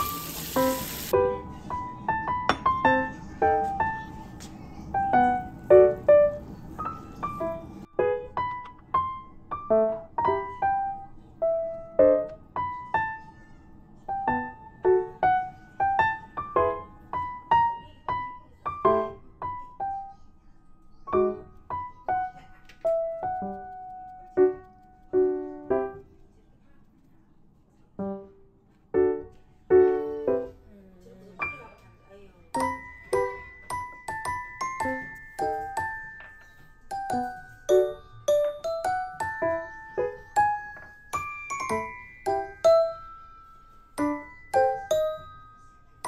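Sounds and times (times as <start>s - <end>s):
piano music: 0.0s - 26.2s, 28.0s - 46.0s.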